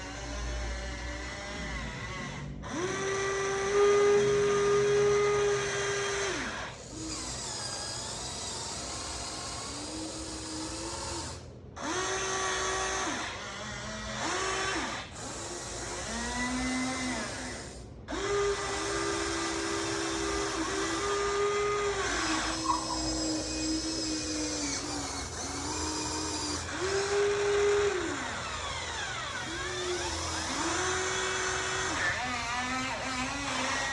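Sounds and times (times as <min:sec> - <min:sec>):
electric motors whining: 0:00.0 - 0:33.9.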